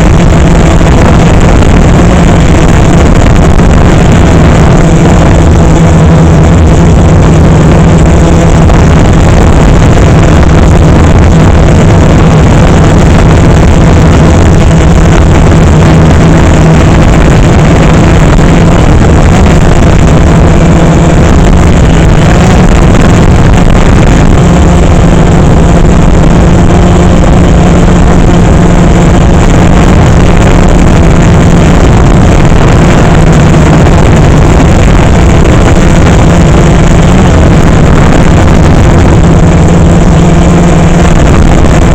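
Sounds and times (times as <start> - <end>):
drone motors humming: 0.0 - 41.9
rushing noise: 0.0 - 41.9.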